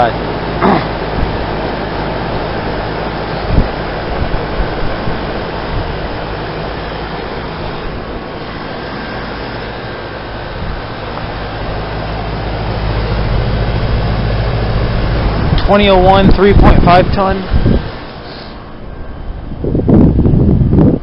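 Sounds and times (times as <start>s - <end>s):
heat pump fan rushing: 0.0s - 21.0s
low compressor hum: 0.0s - 21.0s.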